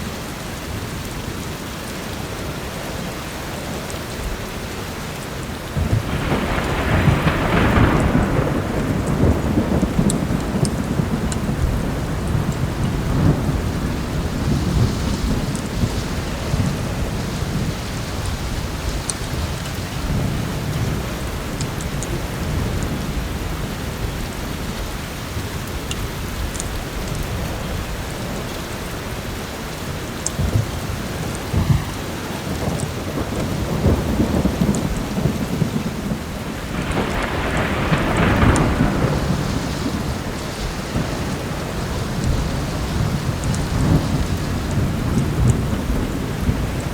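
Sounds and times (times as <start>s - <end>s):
heavy rain: 0.0s - 46.9s
rolling thunder: 5.7s - 25.5s, 26.3s - 46.9s.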